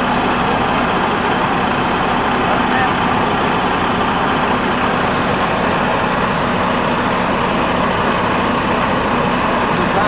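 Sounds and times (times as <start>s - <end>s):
truck diesel engine idling: 0.0s - 10.0s.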